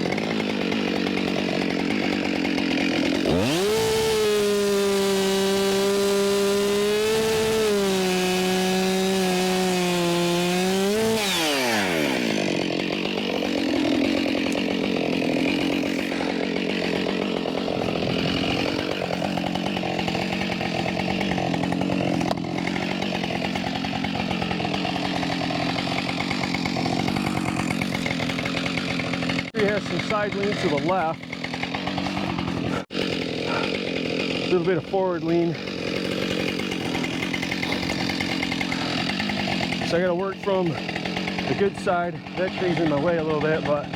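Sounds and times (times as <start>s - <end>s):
chainsaw cutting at full throttle: 0.0s - 43.9s
chainsaw running unevenly: 0.0s - 43.9s.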